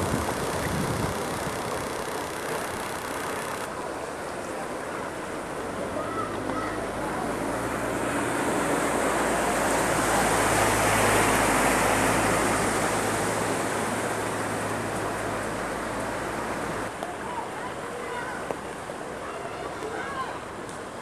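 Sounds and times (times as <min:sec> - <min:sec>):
low engine hum: 0:00.0 - 0:17.0
water rushing and splashing: 0:00.0 - 0:21.0.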